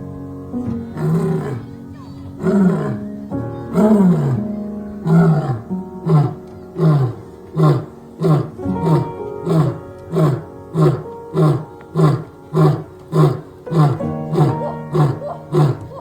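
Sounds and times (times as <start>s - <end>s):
lion grunting roars: 0.9s - 1.8s, 2.4s - 16.0s
lion roaring: 0.9s - 1.8s, 2.4s - 16.0s.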